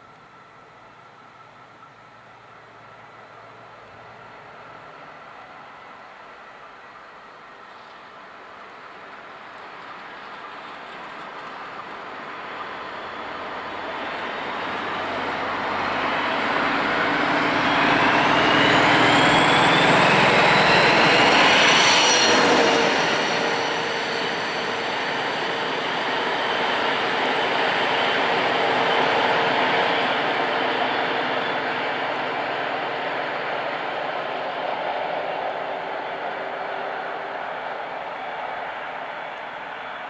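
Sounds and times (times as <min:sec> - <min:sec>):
diesel locomotive passing: 0:00.0 - 0:40.0.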